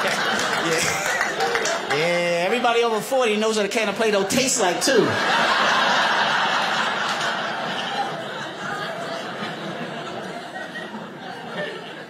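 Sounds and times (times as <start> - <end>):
audience laughing: 0.0 - 2.6, 4.6 - 12.0.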